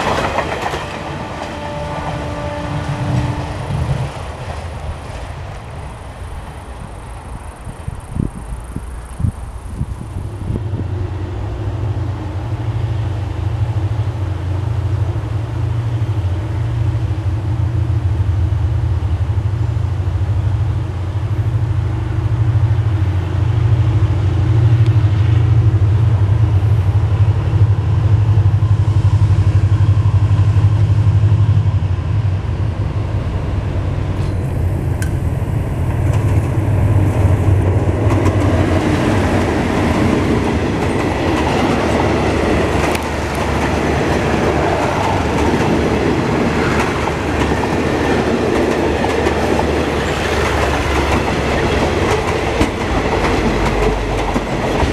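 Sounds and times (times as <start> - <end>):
diesel locomotive engine drone: 0.0 - 54.9
train wheels rumbling on rails: 0.0 - 54.9.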